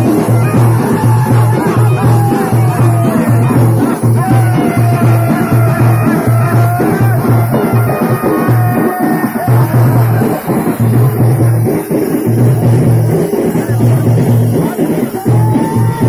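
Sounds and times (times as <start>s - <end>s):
large drum steady beat: 0.0s - 16.0s.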